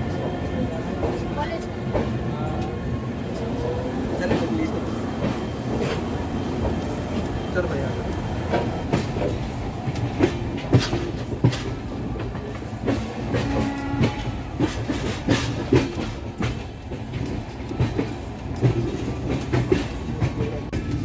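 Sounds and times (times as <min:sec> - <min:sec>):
train rumble: 0:00.0 - 0:21.0
wheels clacking over rail joints: 0:03.4 - 0:21.0.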